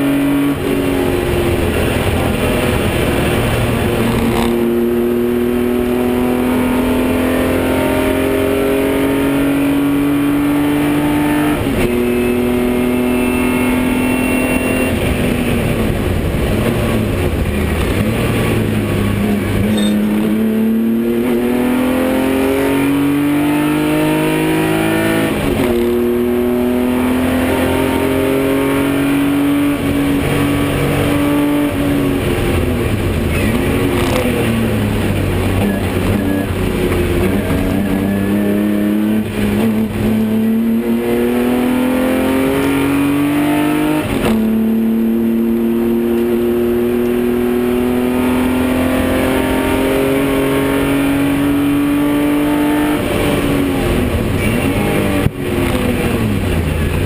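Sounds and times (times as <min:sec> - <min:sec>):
race car engine at high revs: 0:00.0 - 0:57.0.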